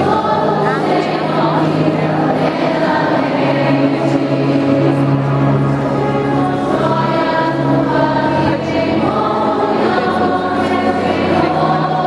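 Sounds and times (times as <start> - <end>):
choir singing a hymn: 0.0 - 12.0.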